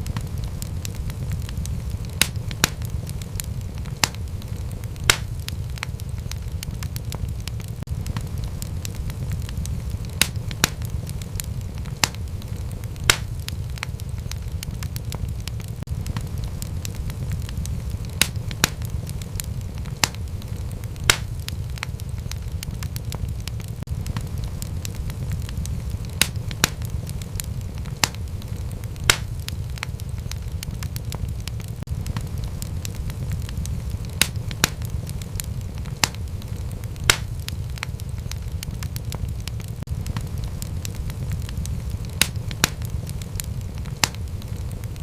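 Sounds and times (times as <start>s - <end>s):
flames rumbling: 0.0s - 45.0s
loud fire snaps: 0.0s - 45.0s
wood fire crackling: 0.0s - 45.0s.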